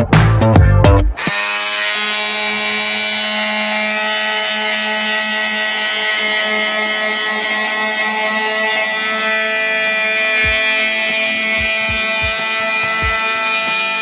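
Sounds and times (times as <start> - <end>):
electric sander humming: 0.9 - 14.0.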